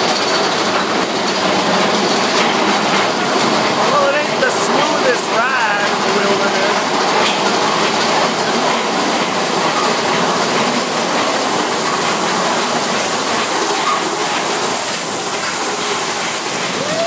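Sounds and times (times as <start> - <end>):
roller coaster wheels on rails: 0.0 - 17.0.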